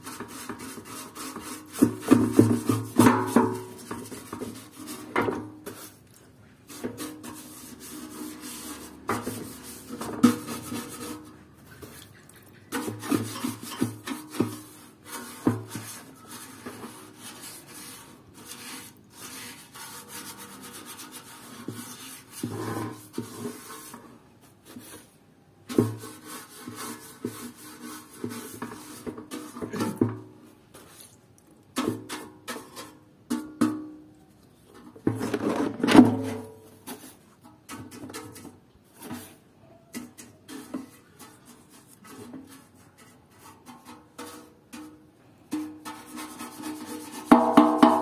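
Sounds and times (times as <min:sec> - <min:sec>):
paintbrush scrubbing on metal: 0:00.0 - 0:33.4, 0:36.6 - 0:47.6.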